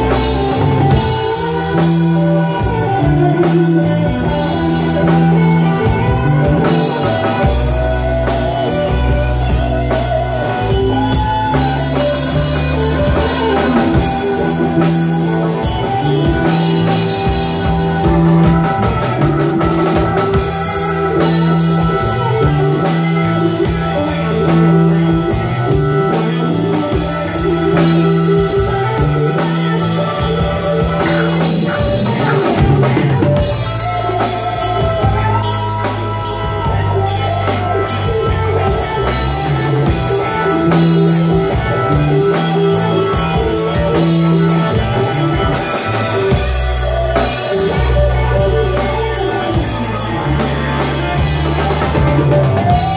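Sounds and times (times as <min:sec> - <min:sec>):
drum kit: 0:00.0 - 0:52.9
electric guitars: 0:00.0 - 0:52.9
keyboard: 0:00.0 - 0:52.9
repeating low bass line: 0:00.0 - 0:52.9.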